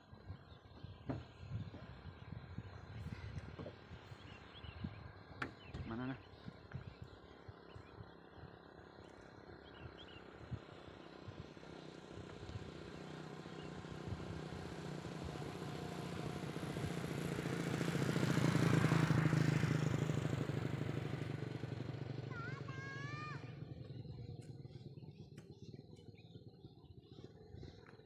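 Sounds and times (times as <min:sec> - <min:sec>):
motorcycle passing: 0:00.0 - 0:28.0.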